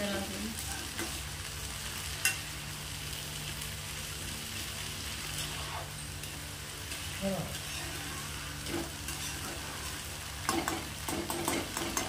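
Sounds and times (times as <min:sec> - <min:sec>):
beans sizzling in oil: 0:00.0 - 0:12.0.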